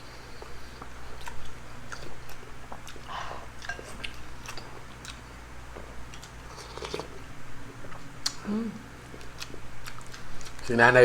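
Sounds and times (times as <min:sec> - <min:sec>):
chewing food: 0:00.3 - 0:10.7.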